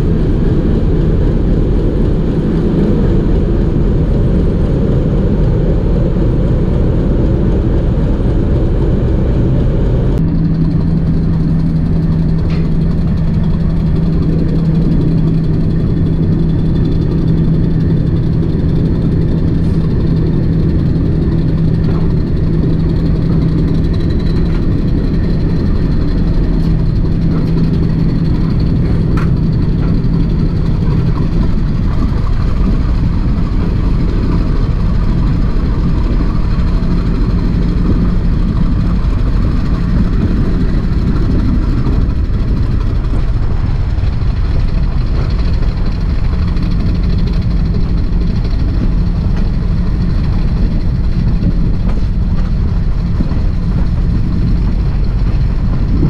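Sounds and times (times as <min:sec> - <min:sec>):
locomotive engine droning: 0:00.0 - 0:56.0.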